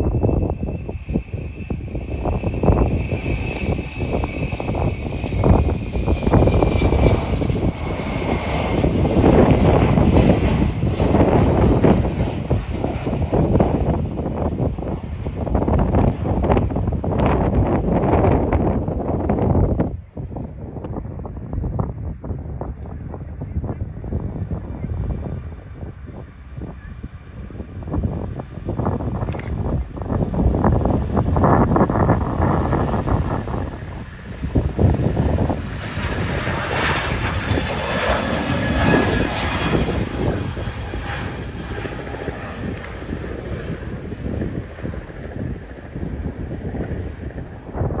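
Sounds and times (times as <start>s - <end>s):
jet engines at takeoff thrust: 0.0s - 48.0s
wind buffeting microphone: 0.0s - 48.0s.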